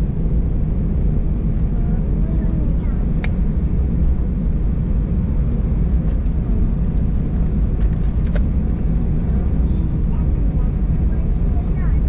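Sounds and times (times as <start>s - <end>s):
aircraft engines at low power: 0.0s - 12.0s.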